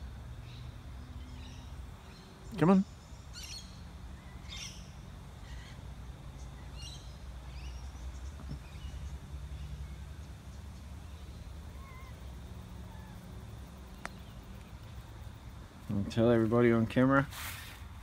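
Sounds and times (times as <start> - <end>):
bird calls and chirps: 0.4 - 14.9.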